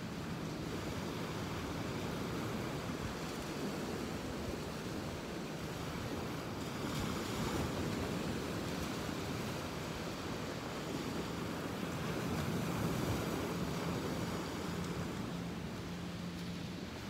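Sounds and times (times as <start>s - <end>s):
ocean surf washing on beach: 0.0s - 17.0s
wind: 0.0s - 17.0s.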